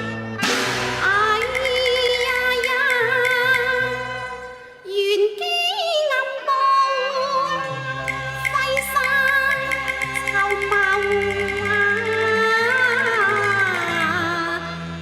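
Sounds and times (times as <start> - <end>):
instrumental accompaniment: 0.0 - 4.8, 7.2 - 15.0
woman singing opera: 1.0 - 14.8.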